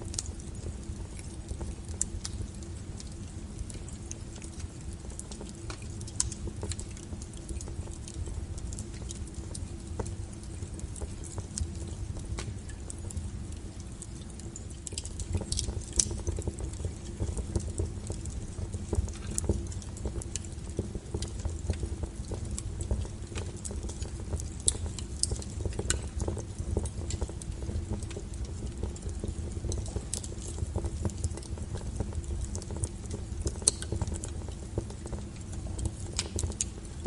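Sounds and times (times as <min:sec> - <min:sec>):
fire low rumble: 0:00.0 - 0:37.0
firewood crackling and popping: 0:00.0 - 0:37.0.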